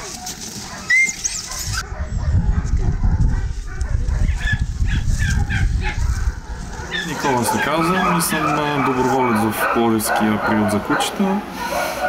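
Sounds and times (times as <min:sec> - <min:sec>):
dogs barking and whimpering: 0:00.0 - 0:12.0.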